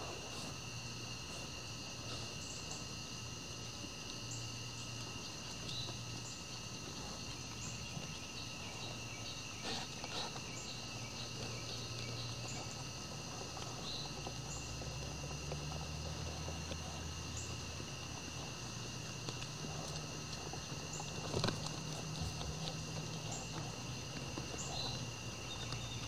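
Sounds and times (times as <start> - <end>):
insect chirps: 0.0 - 26.0
insects trilling: 0.0 - 26.0.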